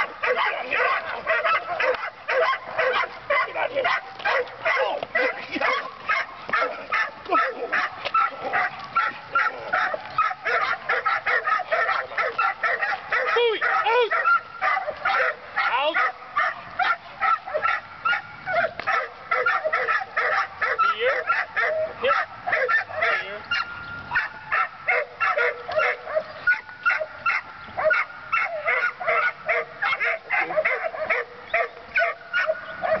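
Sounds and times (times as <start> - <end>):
dog barking rapidly: 0.0 - 33.0.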